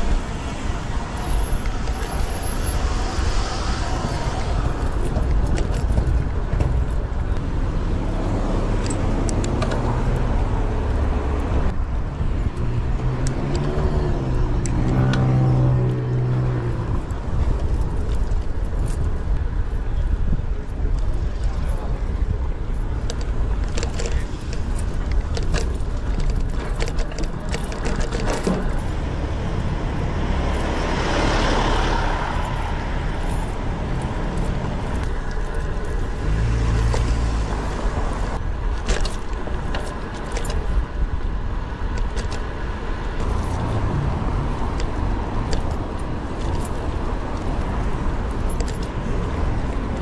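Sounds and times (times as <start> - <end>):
bike rattling over bumps: 0.0 - 8.3, 16.8 - 50.0
street traffic passing: 0.0 - 50.0
wind rumbling on microphone: 0.0 - 50.0.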